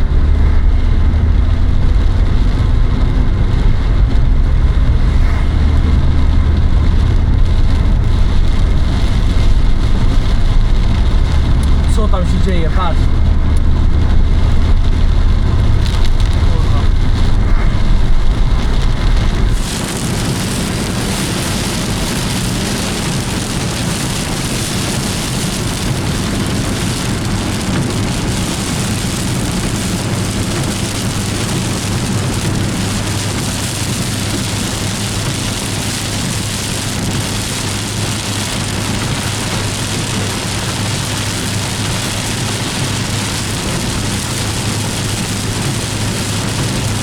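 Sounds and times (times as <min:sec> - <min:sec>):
deep rumble: 0:00.0 - 0:47.0
engine and road hum: 0:00.0 - 0:47.0
heavy rain on a car: 0:00.0 - 0:47.0.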